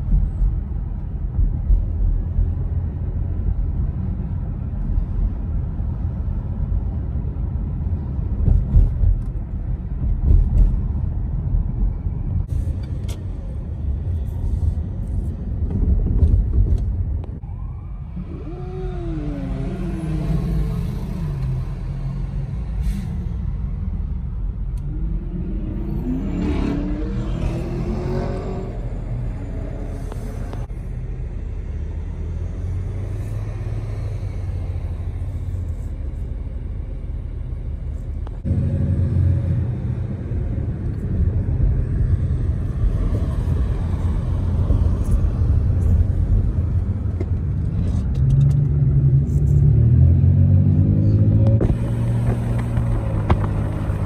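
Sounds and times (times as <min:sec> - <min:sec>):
car engine: 0:00.0 - 0:54.0
road rumble: 0:00.0 - 0:54.0.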